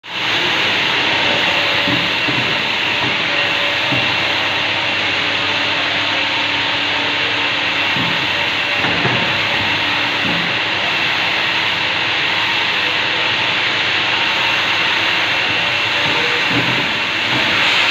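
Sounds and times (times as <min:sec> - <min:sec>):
machine hissing: 0:00.1 - 0:17.9.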